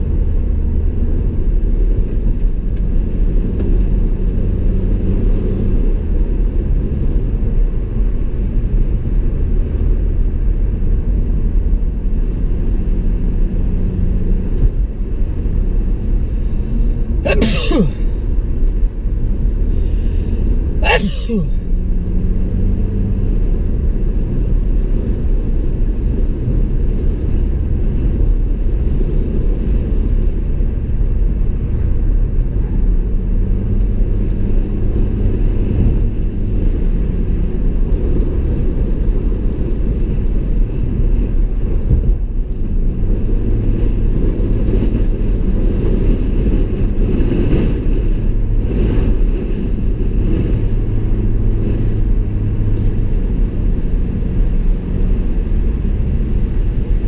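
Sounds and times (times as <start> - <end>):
car engine hum: 0.0 - 57.0
tyre and road noise: 0.0 - 57.0.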